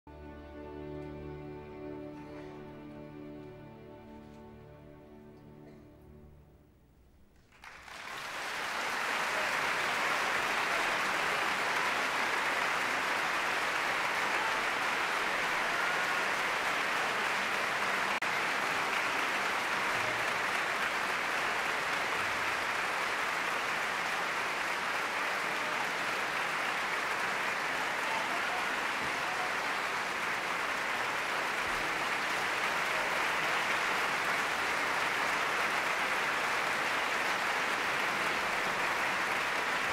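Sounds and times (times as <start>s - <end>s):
audience applauding: 7.3s - 39.9s.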